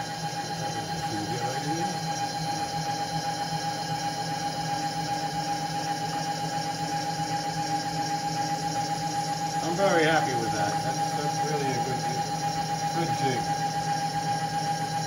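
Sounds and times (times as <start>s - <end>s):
power feed motor whining: 0.0s - 15.0s.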